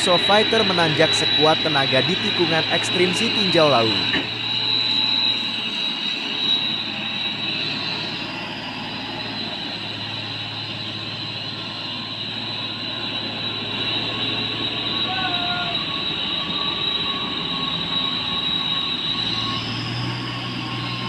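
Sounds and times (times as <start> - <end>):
truck diesel engine labouring: 0.0 - 21.0.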